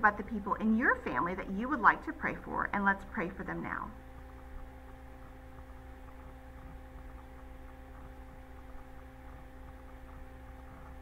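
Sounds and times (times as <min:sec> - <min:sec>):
constant tones: 0:00.0 - 0:11.0
steady low hum: 0:00.0 - 0:11.0.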